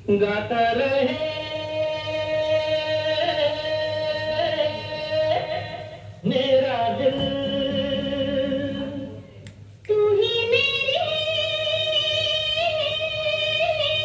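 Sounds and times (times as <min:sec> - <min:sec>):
person singing long wordless notes: 0:00.0 - 0:14.0.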